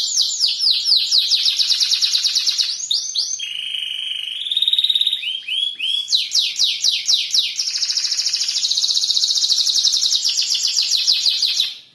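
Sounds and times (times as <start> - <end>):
canary singing: 0.0 - 11.9.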